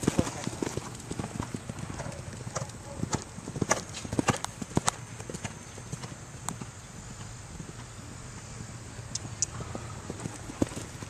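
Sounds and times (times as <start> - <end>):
horse hooves on sand: 0.0 - 11.0.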